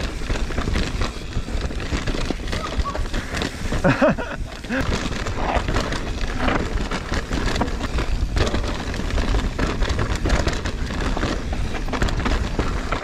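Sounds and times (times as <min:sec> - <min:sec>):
bike chain and frame rattling: 0:00.0 - 0:13.0
bike tyres rolling over dirt: 0:00.0 - 0:13.0.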